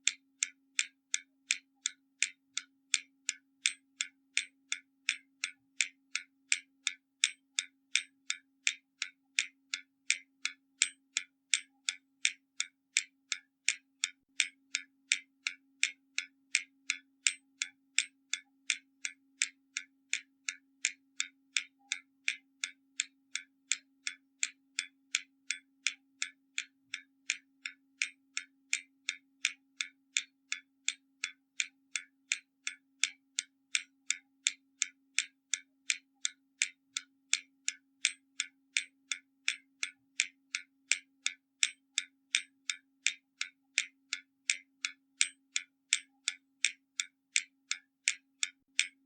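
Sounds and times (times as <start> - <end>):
mechanical clock ticking: 0.0 - 49.0.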